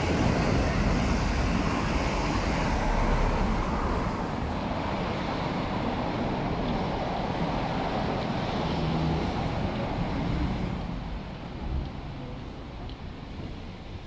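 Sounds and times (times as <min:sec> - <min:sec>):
city road traffic rumble: 0:00.0 - 0:14.0.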